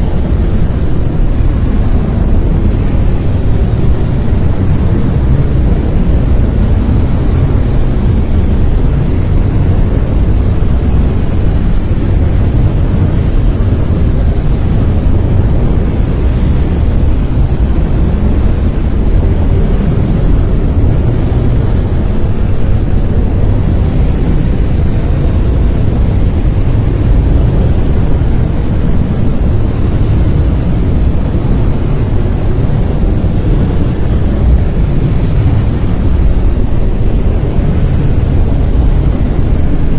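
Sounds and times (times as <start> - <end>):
loud brown noise: 0.0 - 39.9.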